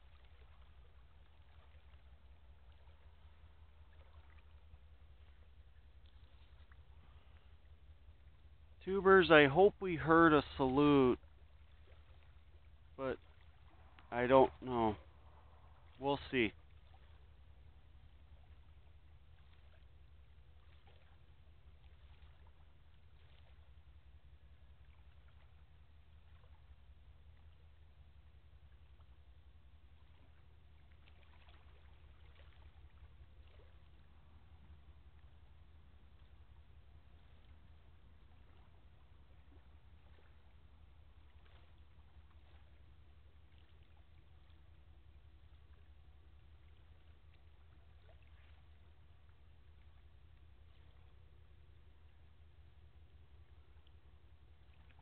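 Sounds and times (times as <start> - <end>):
faint low rumble: 0.0 - 55.0.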